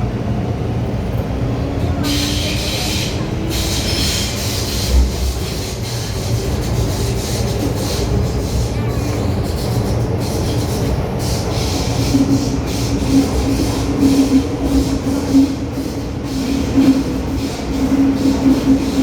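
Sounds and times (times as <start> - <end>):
low train hum: 0.0 - 19.0
train wheels rumbling: 0.0 - 19.0.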